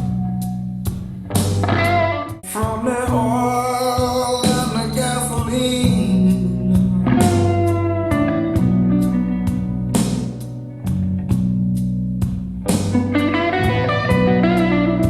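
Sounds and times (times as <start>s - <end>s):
guitar music with bass and drums: 0.0s - 15.0s.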